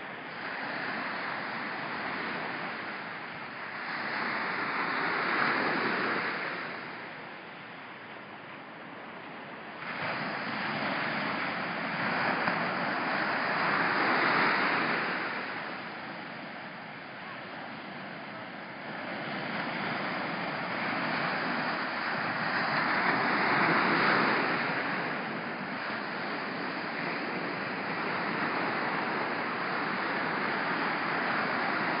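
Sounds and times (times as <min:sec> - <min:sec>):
surf washing on sandy beach: 0:00.0 - 0:32.0
wind noise on microphone: 0:00.0 - 0:32.0.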